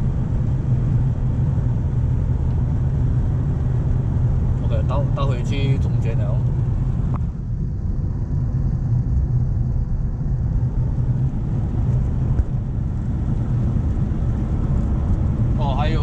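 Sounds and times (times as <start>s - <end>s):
engine and road drone: 0.0s - 16.0s.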